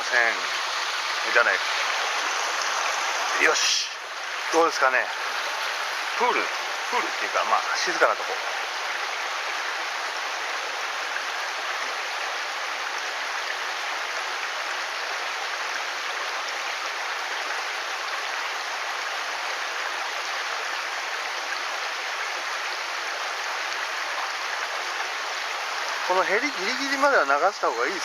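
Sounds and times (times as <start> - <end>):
stream water running: 0.0 - 28.0.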